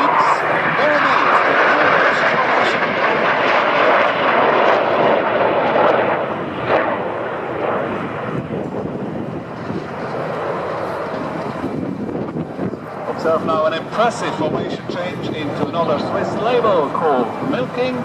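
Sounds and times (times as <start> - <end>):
jets passing overhead: 0.0 - 18.0.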